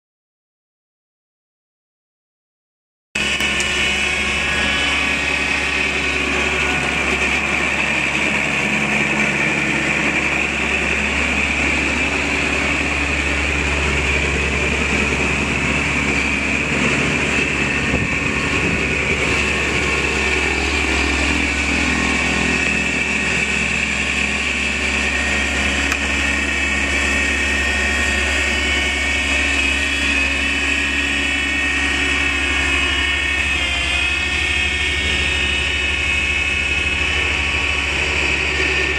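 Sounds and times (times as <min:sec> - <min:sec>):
snowblower high whine: 0:03.2 - 0:38.9
tractor diesel engine running: 0:03.2 - 0:38.9.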